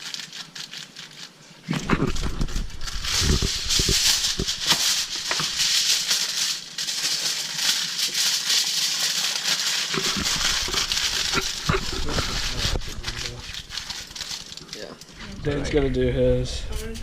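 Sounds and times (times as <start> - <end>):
seasoning shaker rattling: 0.0 - 15.2.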